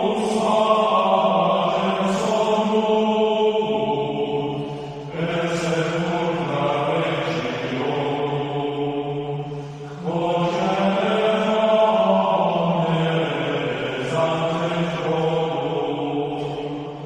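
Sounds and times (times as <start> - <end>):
choir singing a sacred chant: 0.0 - 17.0.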